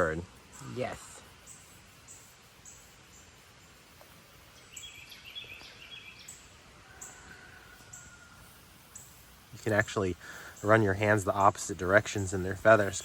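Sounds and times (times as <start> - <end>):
lower chirping: 0.0 - 13.0.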